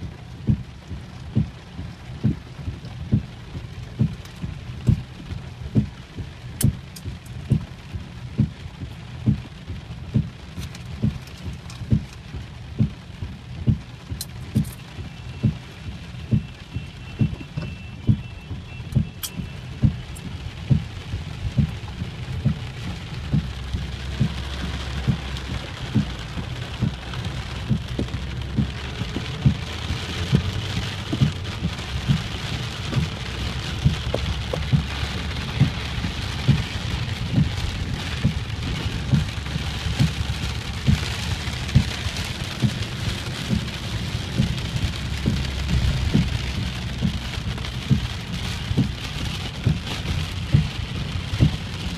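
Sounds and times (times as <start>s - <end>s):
heavy rain pattering: 0.0s - 51.9s
steady low rumble: 0.0s - 51.9s.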